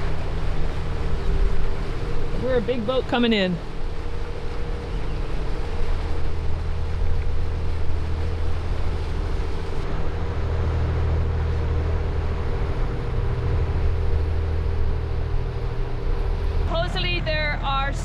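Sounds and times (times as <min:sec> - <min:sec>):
boat motor droning: 0:00.0 - 0:18.0
rushing water: 0:00.0 - 0:18.0
wind: 0:00.0 - 0:18.0.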